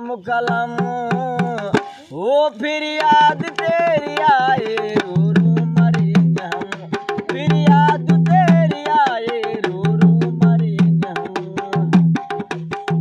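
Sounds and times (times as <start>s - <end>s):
hand drum folk rhythm: 0.0s - 13.0s.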